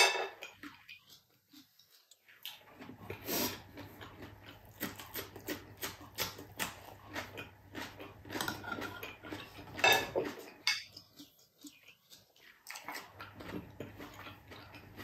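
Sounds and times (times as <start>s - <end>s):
chewing crisp cucumber: 0.3s - 15.0s.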